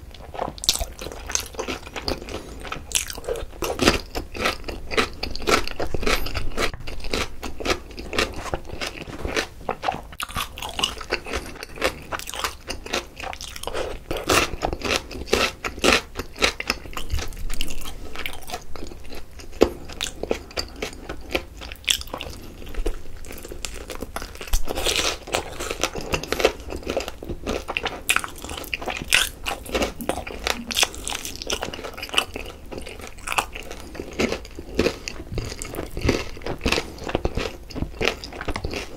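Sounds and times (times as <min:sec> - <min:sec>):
crunching and chewing chicken: 0:00.0 - 0:38.9.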